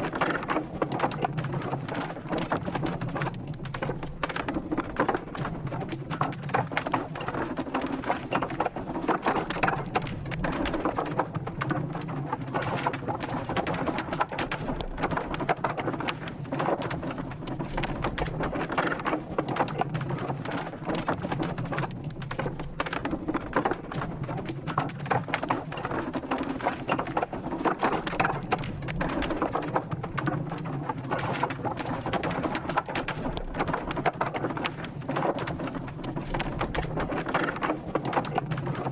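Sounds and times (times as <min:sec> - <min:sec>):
wooden wheel clicks and creaks: 0:00.0 - 0:38.9.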